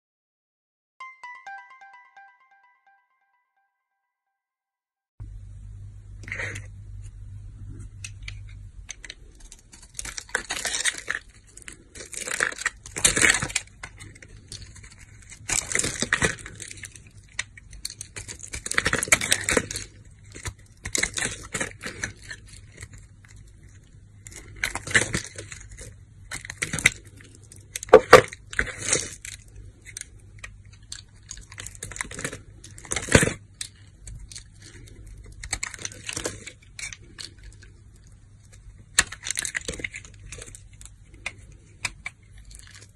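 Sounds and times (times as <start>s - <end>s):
faint steady hum: 5.2s - 42.9s.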